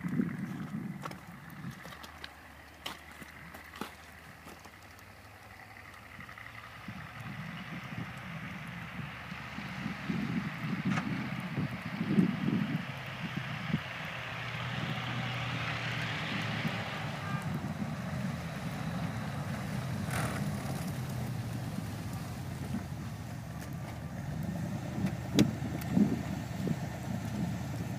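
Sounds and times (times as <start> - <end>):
tracked vehicle engine rumble: 0.0 - 27.9.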